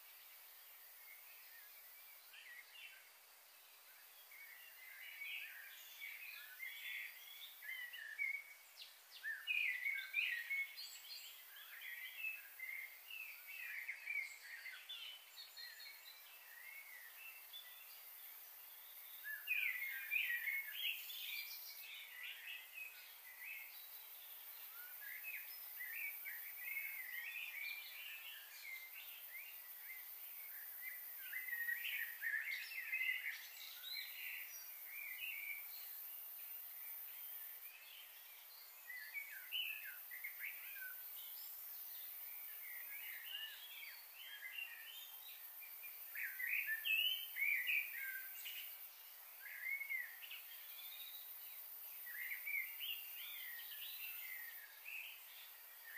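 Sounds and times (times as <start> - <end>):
faint high hiss: 0.0 - 55.9
small birds chirping: 0.0 - 55.9.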